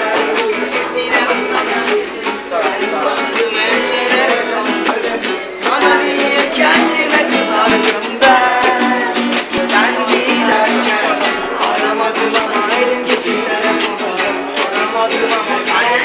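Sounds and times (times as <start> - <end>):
person singing: 0.0 - 16.0
strummed guitar: 0.0 - 16.0.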